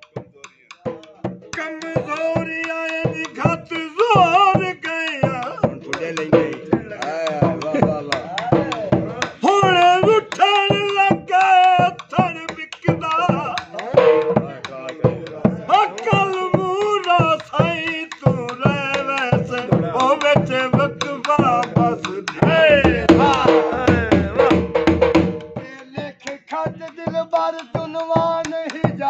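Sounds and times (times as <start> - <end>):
drum beating quick rhythm: 0.0 - 29.0
man singing folk couplets: 0.0 - 29.0.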